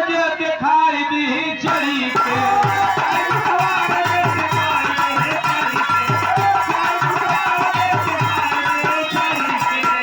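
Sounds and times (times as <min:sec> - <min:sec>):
harmonium melody: 0:00.9 - 0:10.0
hand drum rhythm: 0:01.7 - 0:10.0.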